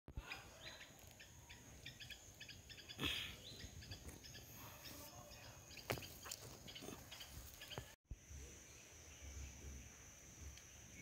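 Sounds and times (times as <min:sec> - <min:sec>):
small birds chirping: 0:00.2 - 0:11.0.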